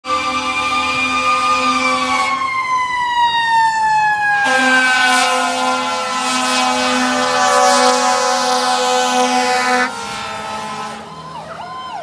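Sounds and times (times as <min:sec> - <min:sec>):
fire truck siren winding down: 0:00.0 - 0:12.0.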